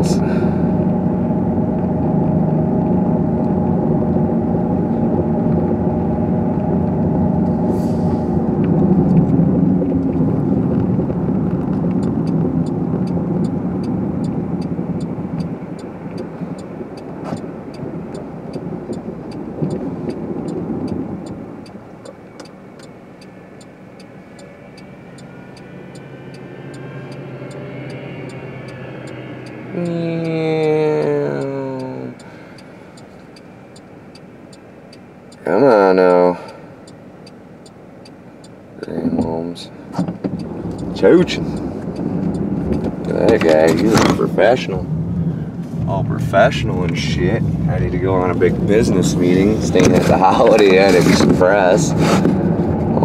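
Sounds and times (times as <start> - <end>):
car engine and road noise: 0.0 - 53.0
turn signal ticking: 8.3 - 53.0.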